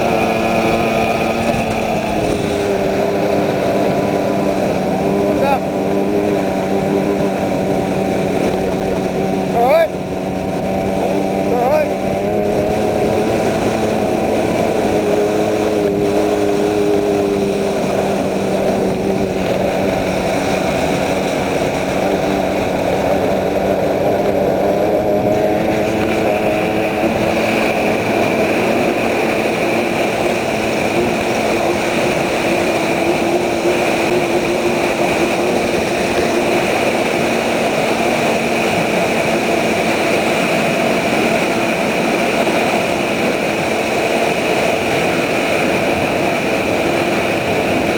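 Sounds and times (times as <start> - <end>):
continuous rushing noise: 0.0 - 47.9
outboard engine running at speed: 0.0 - 47.9.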